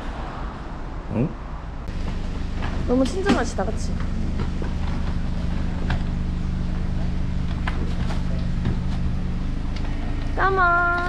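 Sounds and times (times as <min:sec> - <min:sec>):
car engine idling: 0:01.7 - 0:11.0.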